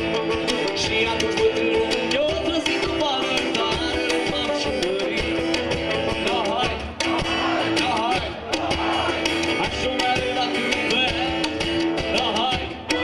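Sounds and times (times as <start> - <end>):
folk band playing: 0.0 - 13.0
steady drum beat: 0.0 - 13.0.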